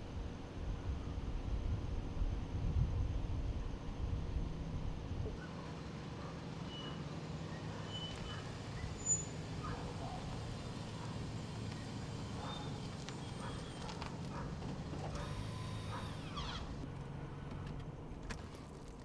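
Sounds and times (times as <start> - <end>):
car driving hum: 3.1 - 19.0.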